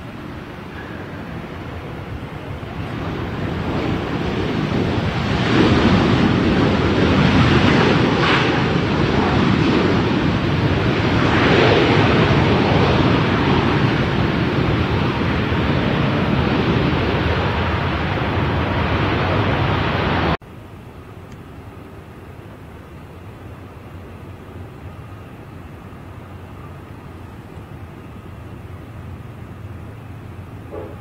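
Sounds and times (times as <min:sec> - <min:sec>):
jet engine rumble: 0:00.0 - 0:31.0.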